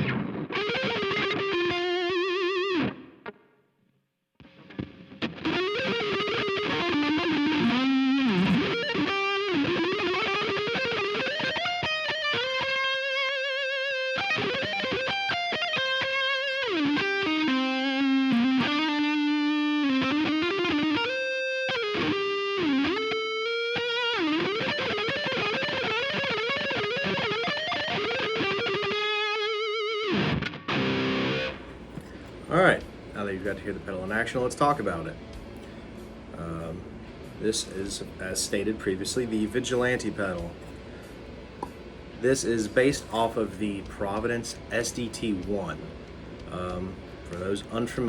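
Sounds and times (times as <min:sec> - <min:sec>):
distorted electric guitar riffing: 0:00.0 - 0:03.4, 0:04.4 - 0:48.0.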